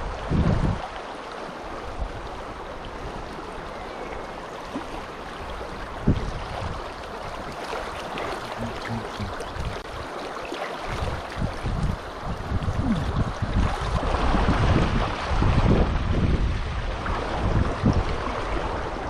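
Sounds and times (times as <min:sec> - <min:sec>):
wind buffeting microphone: 0:00.0 - 0:00.9, 0:01.8 - 0:10.1, 0:10.9 - 0:19.0
river water rushing: 0:00.0 - 0:19.0.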